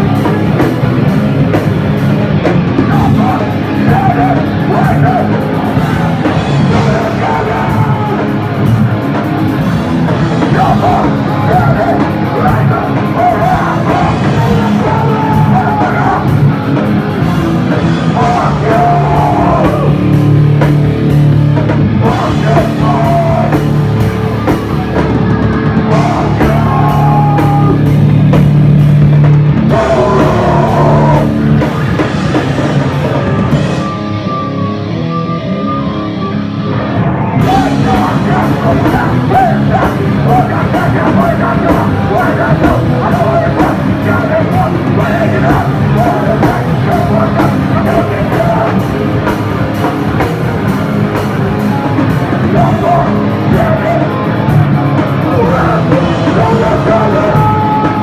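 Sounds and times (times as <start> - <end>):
heavy rock music with singing: 0.0 - 58.0.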